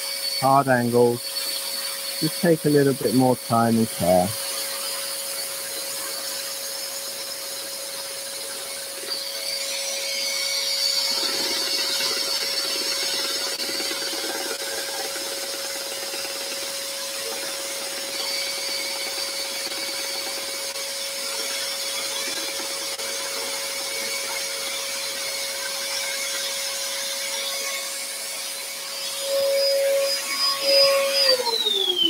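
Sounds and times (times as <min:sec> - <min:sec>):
scroll saw cutting wood: 0:00.0 - 0:32.0.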